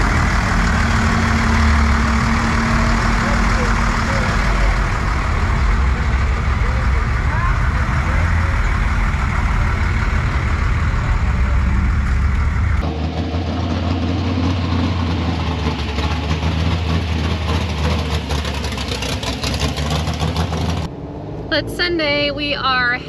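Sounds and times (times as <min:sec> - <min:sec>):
engine rattle: 0:00.0 - 0:23.0
vehicle engine idling: 0:00.0 - 0:23.0.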